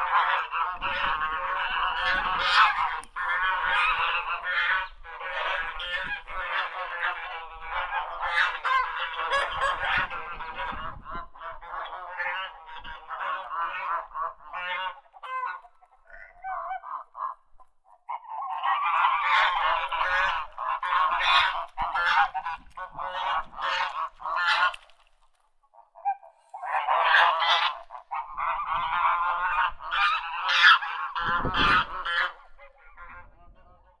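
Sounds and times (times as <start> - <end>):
ducks quacking: 0.0 - 34.0.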